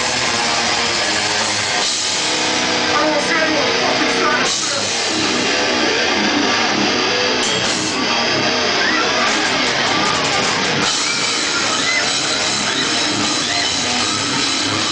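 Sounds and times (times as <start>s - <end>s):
distorted electric guitars: 0.0s - 14.9s
drum kit playing: 0.0s - 14.9s.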